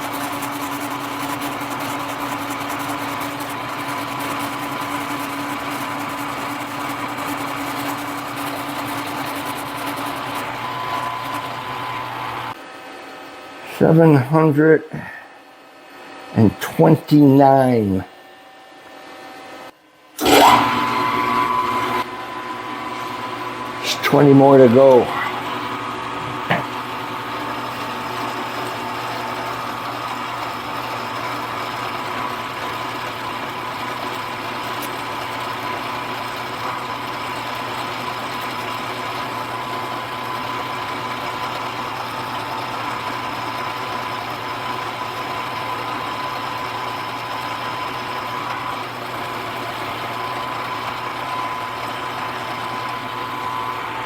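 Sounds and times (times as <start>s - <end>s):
milling machine whining: 0.0s - 18.0s, 18.9s - 54.0s.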